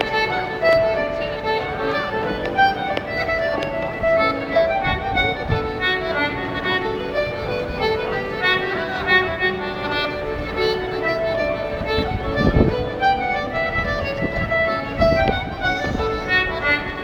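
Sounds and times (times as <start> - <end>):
accordion: 0.0 - 17.0
fiddle: 0.0 - 17.0
folk band playing: 0.0 - 17.0.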